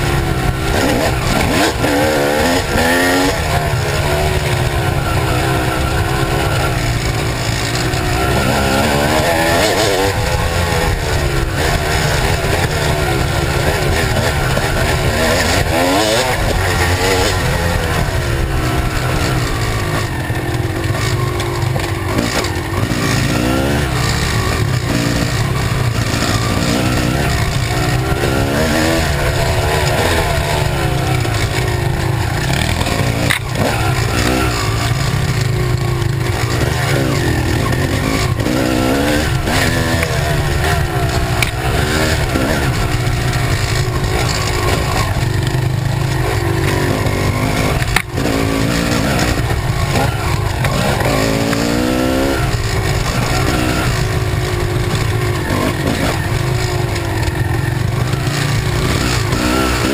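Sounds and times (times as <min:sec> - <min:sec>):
dirt bike engine running hard: 0:00.0 - 0:59.9.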